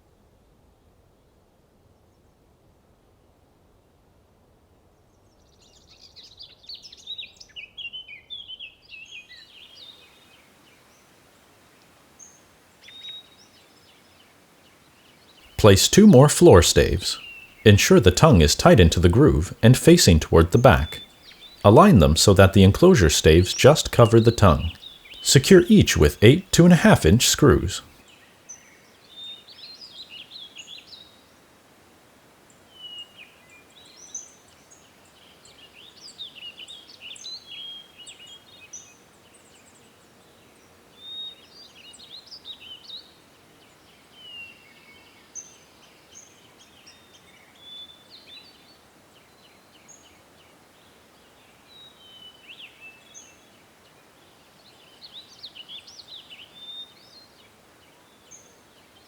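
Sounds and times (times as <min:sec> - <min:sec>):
faint background noise: 0:09.4 - 0:59.0.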